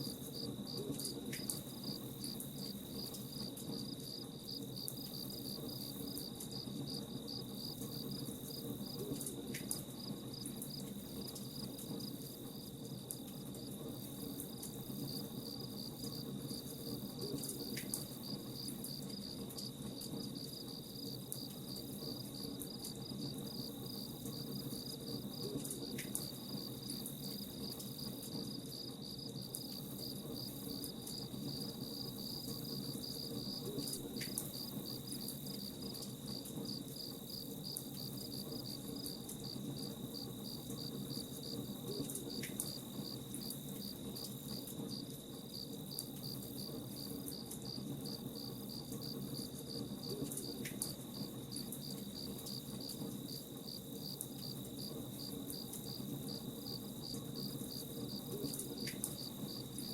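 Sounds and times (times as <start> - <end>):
crickets chirping: 0.0 - 59.9
low steady hiss: 0.0 - 59.9.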